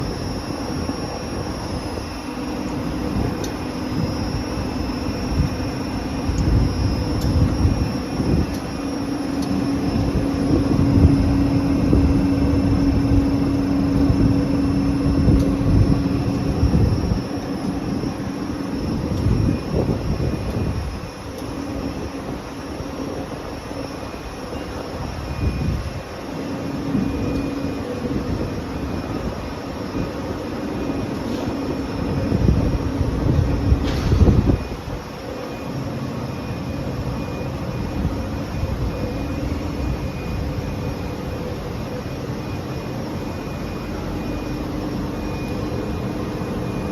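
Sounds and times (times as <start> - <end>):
production line machine drone: 0.0 - 46.9.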